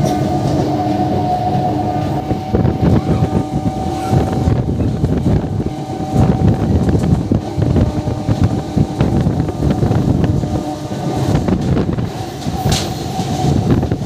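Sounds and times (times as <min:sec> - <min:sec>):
rail clicks: 0:00.0 - 0:14.0
train wheels rumbling on rails: 0:00.0 - 0:14.0
wind buffeting microphone: 0:00.0 - 0:14.0.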